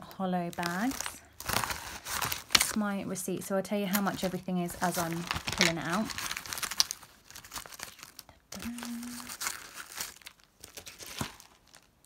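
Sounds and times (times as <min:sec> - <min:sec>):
foil mailer and plastic bags crinkling: 0:00.1 - 0:02.8, 0:03.9 - 0:12.0.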